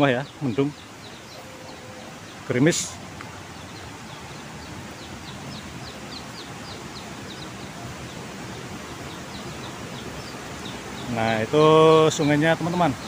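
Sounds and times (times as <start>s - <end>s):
small bird chirping: 0.0s - 13.0s
steady outdoor hiss: 0.0s - 13.0s.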